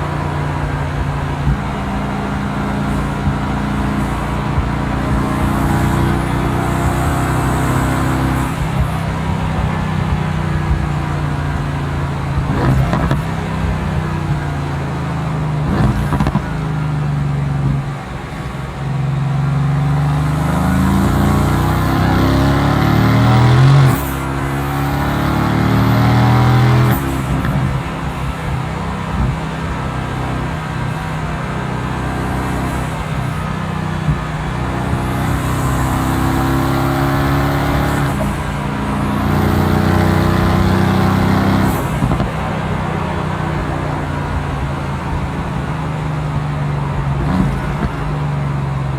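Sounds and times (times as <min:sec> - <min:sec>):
car engine running: 0:00.0 - 0:48.9
exhaust crackle: 0:00.0 - 0:48.9.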